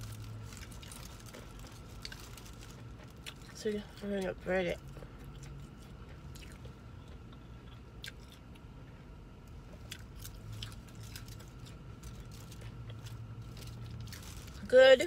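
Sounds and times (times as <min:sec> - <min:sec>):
person chewing crunchy food: 0:00.0 - 0:14.7
low steady hum: 0:00.0 - 0:15.0.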